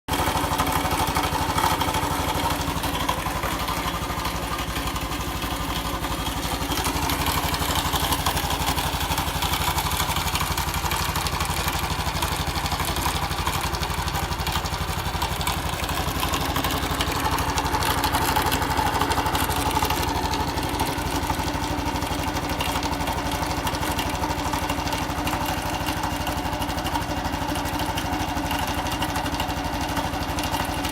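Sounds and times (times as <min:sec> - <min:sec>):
abnormal engine noise: 0:00.1 - 0:30.9
motorcycle engine running: 0:00.1 - 0:30.9.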